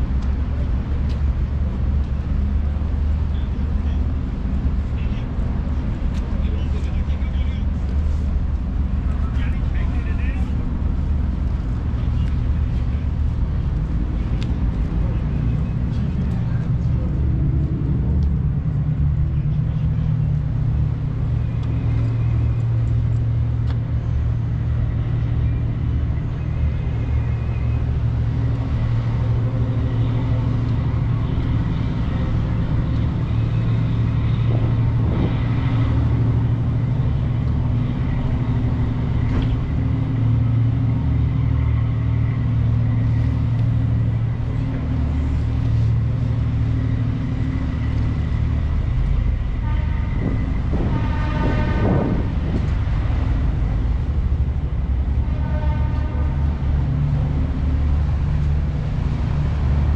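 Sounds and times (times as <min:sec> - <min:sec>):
constant drone: 0:00.0 - 0:59.9
road traffic rumble: 0:00.0 - 0:59.9.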